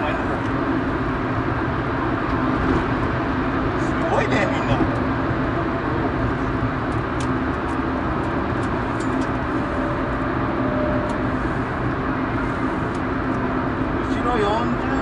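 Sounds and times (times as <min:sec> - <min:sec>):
car engine running: 0:00.0 - 0:15.0
road and tyre noise: 0:00.0 - 0:15.0.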